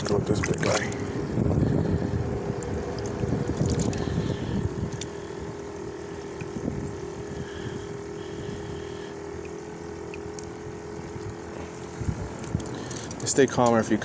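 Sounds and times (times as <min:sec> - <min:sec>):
small pump humming: 0:00.0 - 0:14.0
water noise: 0:00.0 - 0:14.0.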